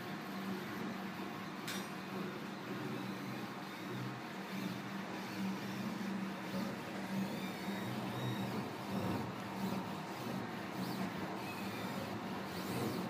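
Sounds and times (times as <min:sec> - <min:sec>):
printer machine hum: 0:00.0 - 0:13.0.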